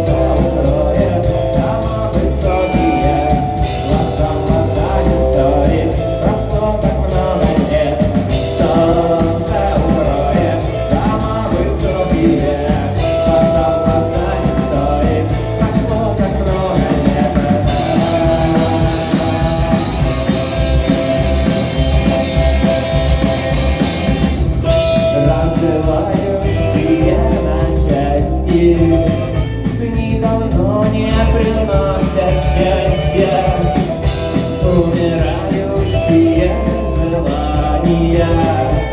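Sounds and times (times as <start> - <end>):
person singing: 0.0 - 38.9
rock band playing: 0.0 - 38.9.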